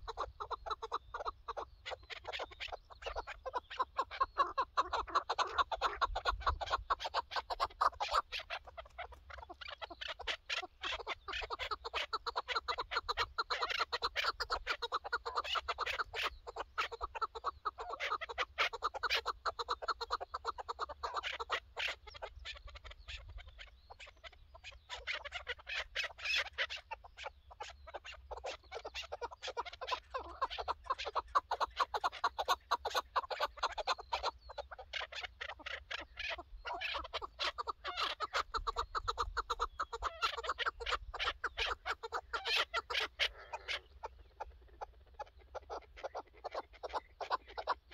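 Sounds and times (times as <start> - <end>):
partridges calling: 0.0 - 47.9.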